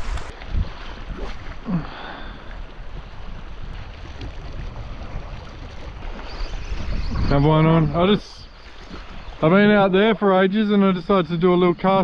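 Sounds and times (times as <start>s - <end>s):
wind buffeting the microphone: 0.0s - 10.1s.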